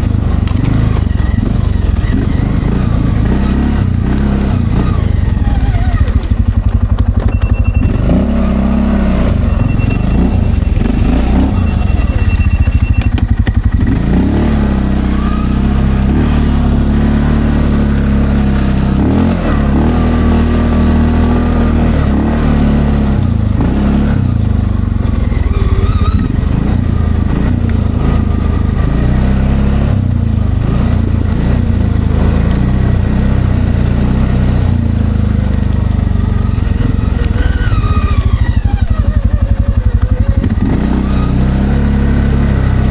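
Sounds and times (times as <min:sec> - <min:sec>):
atv engine revving: 0:00.0 - 0:42.9.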